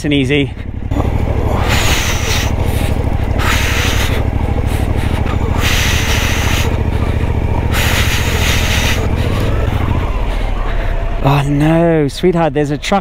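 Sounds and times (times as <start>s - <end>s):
motorcycle engine running: 0.0s - 13.0s
tyres crunching over gravel: 0.1s - 13.0s.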